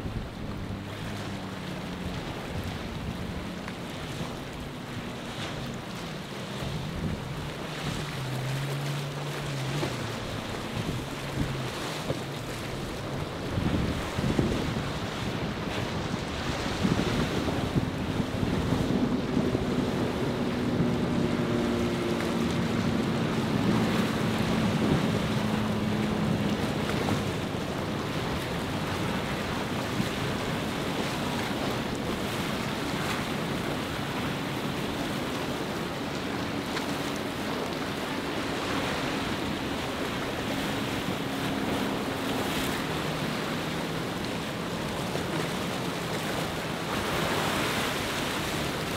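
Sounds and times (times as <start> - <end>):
boat engines droning: 0.0 - 48.9
choppy surf and breaking wake: 0.0 - 48.9
wind buffeting microphone: 0.0 - 48.9.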